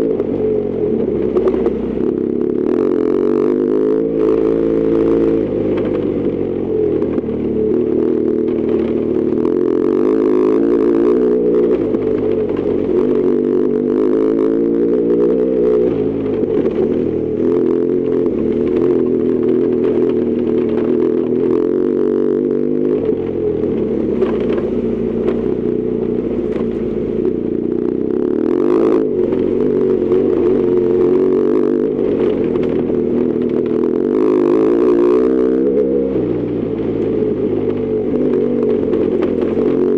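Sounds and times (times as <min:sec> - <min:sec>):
clatter from rough road: 0:00.0 - 0:39.9
motorcycle engine running: 0:00.0 - 0:39.9.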